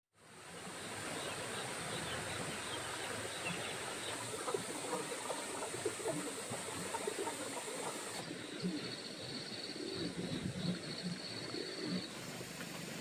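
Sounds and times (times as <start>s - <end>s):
background hiss: 0.2s - 13.0s.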